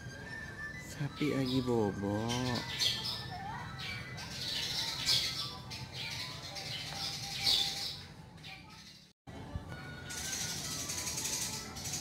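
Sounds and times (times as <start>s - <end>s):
birds chirping and squawking: 0.1s - 9.2s, 9.8s - 12.0s.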